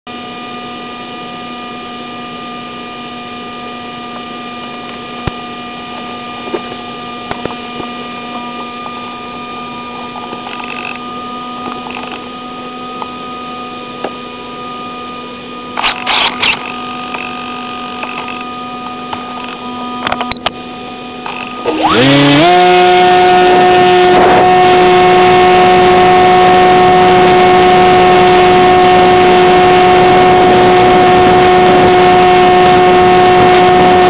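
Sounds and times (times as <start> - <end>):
constant whining tones: 0.1 - 34.0.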